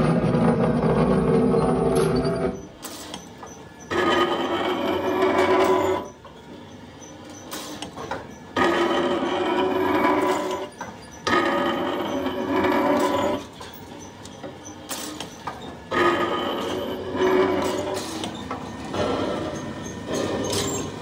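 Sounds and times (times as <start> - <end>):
workshop machine running: 0.0 - 21.0.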